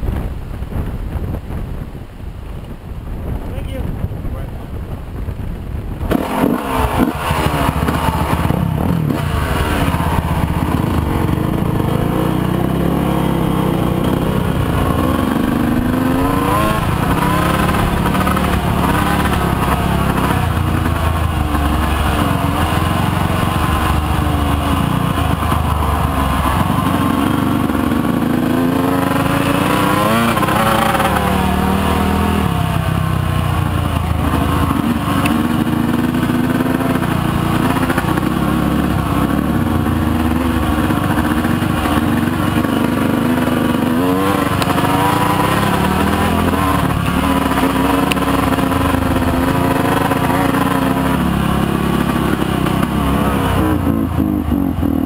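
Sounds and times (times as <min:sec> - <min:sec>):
motorcycle engine revving: 0:04.8 - 0:55.0.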